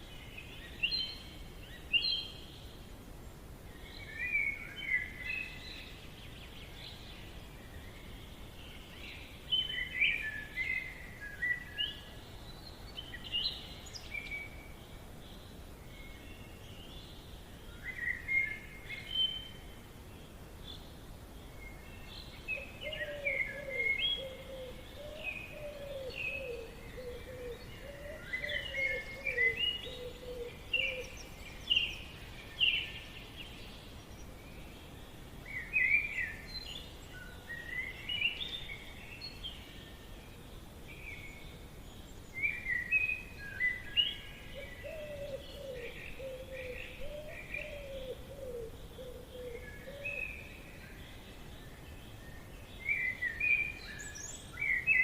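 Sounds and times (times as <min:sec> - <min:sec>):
birds chirping and twittering: 0:00.0 - 0:55.0
faint background hiss: 0:00.0 - 0:55.0.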